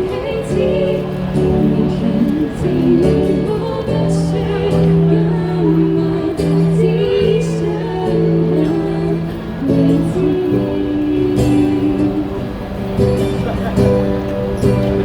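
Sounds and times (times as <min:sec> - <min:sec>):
person singing slow melody: 0:00.0 - 0:13.3.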